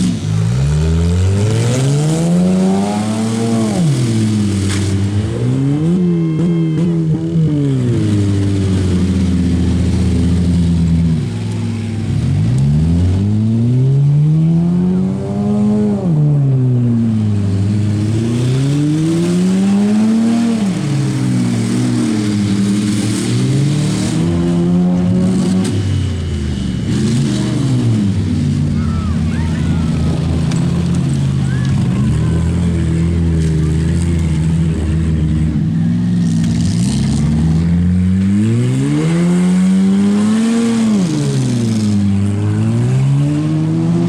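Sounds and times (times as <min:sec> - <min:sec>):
car engines revving: 0:00.0 - 0:44.0.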